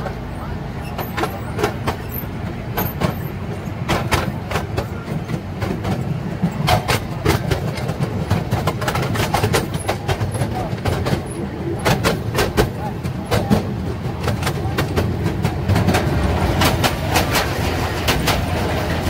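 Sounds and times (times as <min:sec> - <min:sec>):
small train rumbling on track: 0:00.0 - 0:19.0
train clacks and knocks: 0:00.0 - 0:19.0.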